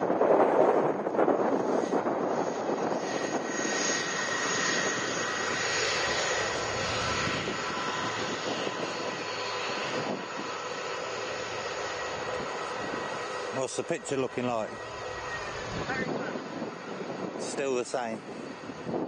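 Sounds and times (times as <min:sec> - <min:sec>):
jet engines rushing at taxi: 0:00.0 - 0:19.0.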